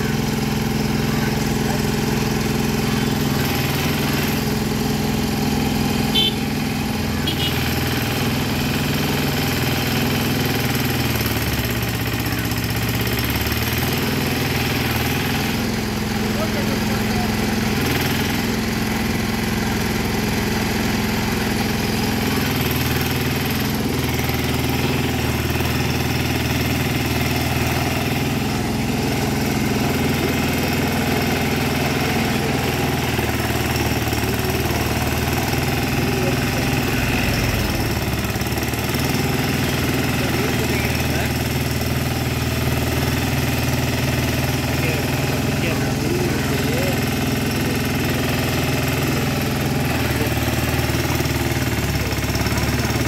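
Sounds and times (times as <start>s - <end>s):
backhoe engine running: 0.0s - 53.0s.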